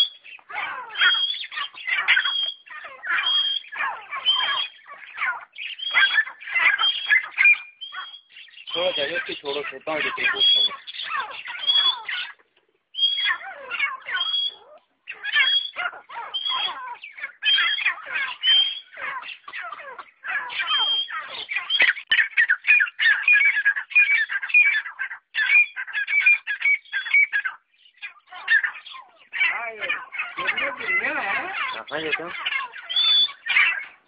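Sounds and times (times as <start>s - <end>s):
francolins calling shrilly: 0.0s - 34.0s.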